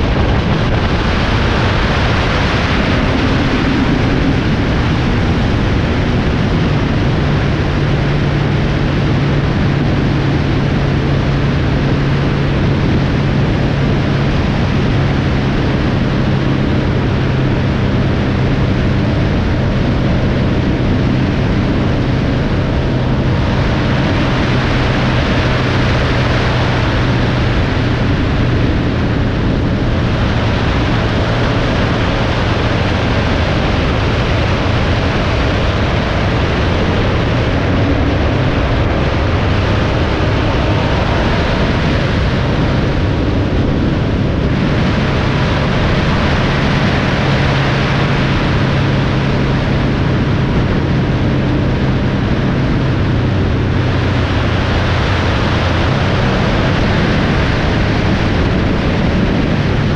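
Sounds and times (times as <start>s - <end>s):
road and wind noise: 0.0s - 59.9s
vehicle engine drone: 0.0s - 59.9s.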